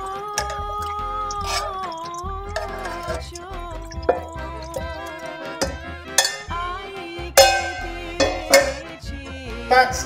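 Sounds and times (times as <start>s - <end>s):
background music with low beat: 0.0s - 10.0s.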